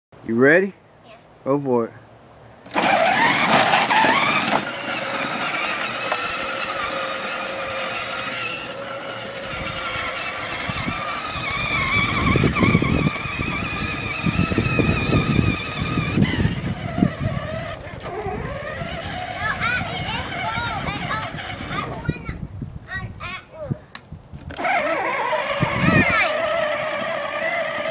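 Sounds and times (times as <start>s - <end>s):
wheels rolling over ground: 2.6s - 22.1s, 24.4s - 27.9s
toy quad electric motor whining: 2.6s - 22.2s, 24.5s - 27.9s.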